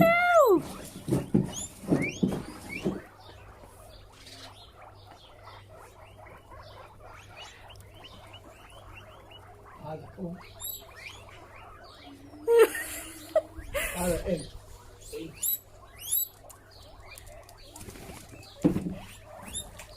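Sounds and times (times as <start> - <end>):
guinea pigs squeaking: 0.0 - 19.9.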